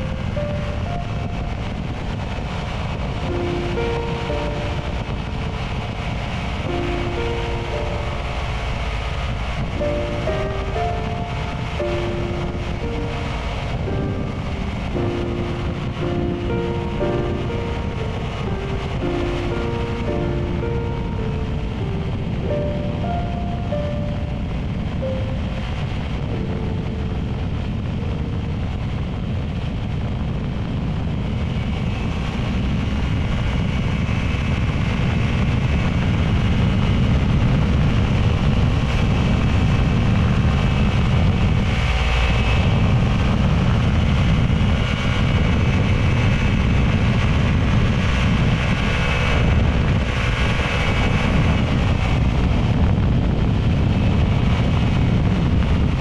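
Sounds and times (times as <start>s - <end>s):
light aircraft engine running: 0.0s - 56.0s
wind noise on microphone: 0.0s - 56.0s.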